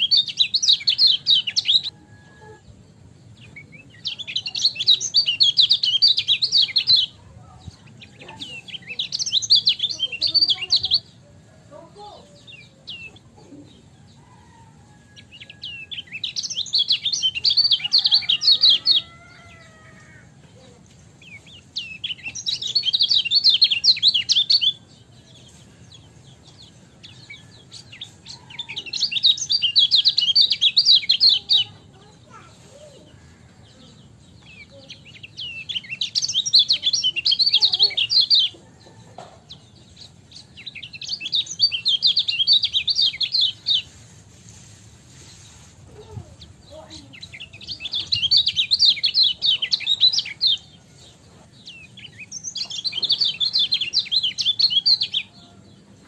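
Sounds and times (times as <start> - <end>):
bird rapid high chirping: 0.0 - 2.0, 3.0 - 11.2, 15.2 - 19.8, 21.0 - 32.5, 34.1 - 38.6, 39.6 - 51.1, 51.7 - 55.4.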